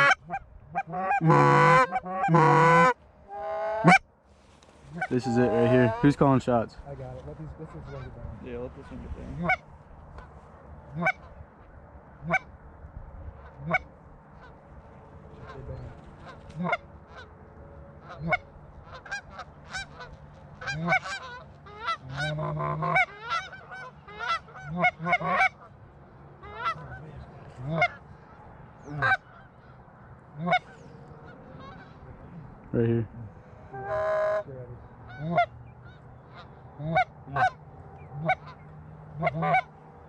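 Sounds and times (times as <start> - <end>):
geese honking: 0.0 - 4.0, 4.8 - 6.4, 7.4 - 11.4, 12.2 - 12.6, 13.4 - 32.6, 33.3 - 40.0.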